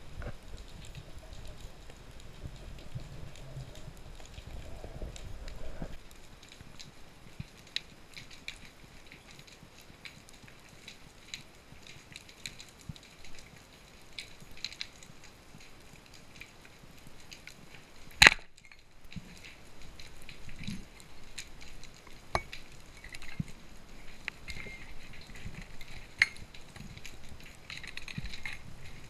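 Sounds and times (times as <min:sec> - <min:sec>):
faint clicks and crackles: 0:00.0 - 0:29.0.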